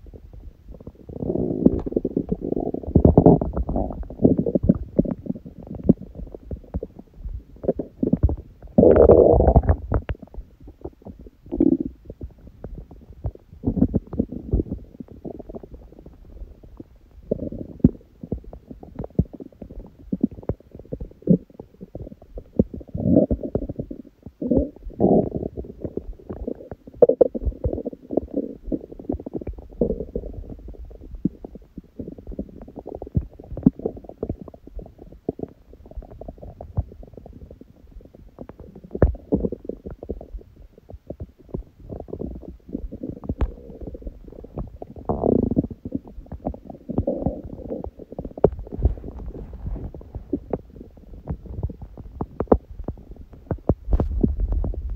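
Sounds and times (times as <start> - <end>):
stomach growling: 0.0 - 54.9.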